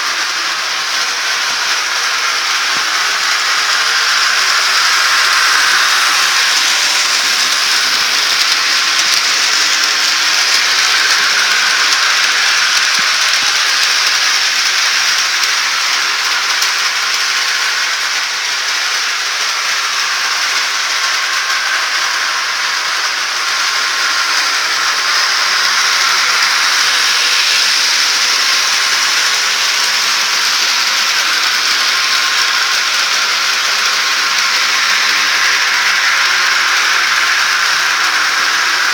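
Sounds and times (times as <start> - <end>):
model train rolling on track: 0.0 - 38.9.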